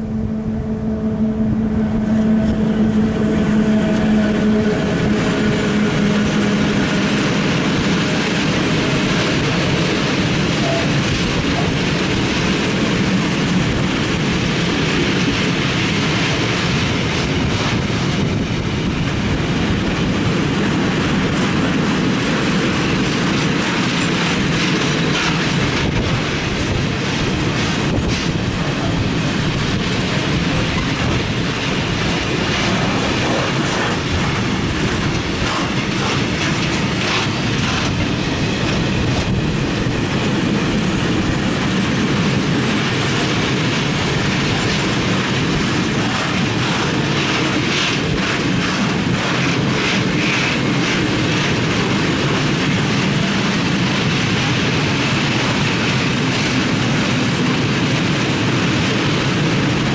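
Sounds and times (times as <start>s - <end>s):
train wheels rumbling on rails: 0.0s - 59.9s
clatter over rail joints: 3.7s - 59.9s.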